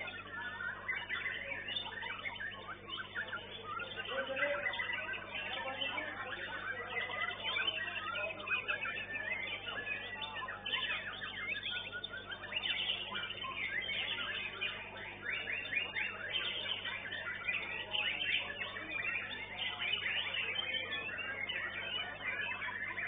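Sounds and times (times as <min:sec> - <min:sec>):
other songbirds singing: 0:00.0 - 0:23.0
songbird chirps and whistles: 0:00.0 - 0:23.0.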